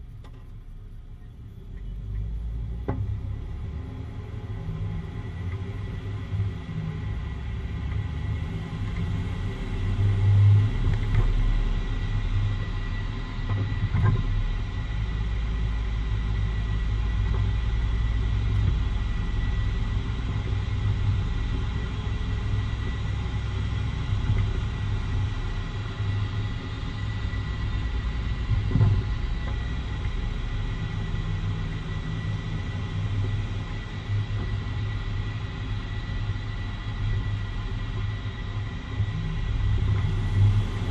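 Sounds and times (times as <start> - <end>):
faint steady whine: 0.0 - 40.9
vehicle driving low rumble: 0.0 - 40.9.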